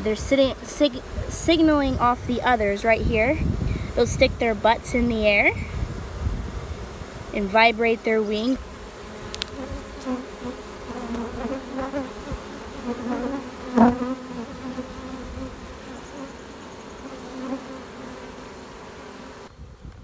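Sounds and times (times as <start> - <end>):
bee swarm buzzing: 0.0 - 20.0.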